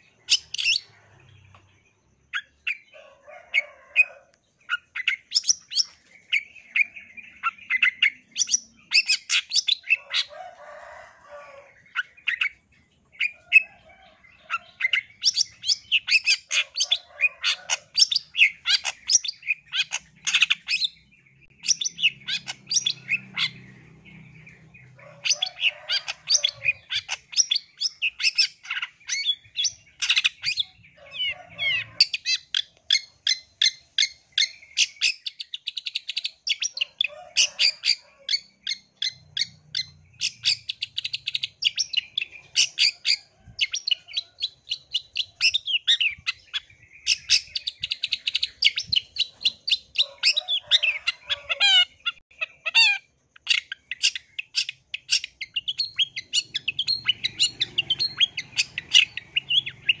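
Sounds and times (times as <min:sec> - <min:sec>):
bird chattering song: 0:00.0 - 1:00.0.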